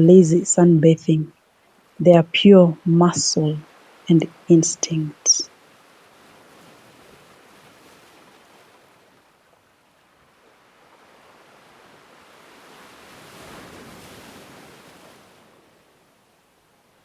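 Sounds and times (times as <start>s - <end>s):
faint rushing waves: 0.0s - 17.0s.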